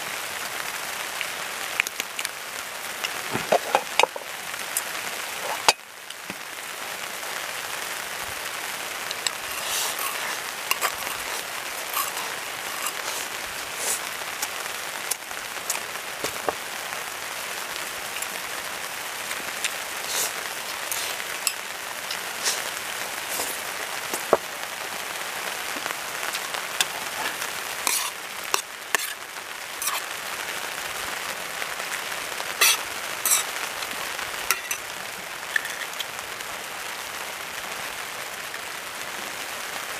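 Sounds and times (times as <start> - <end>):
meat and onions sizzling in pan: 0.0 - 39.9.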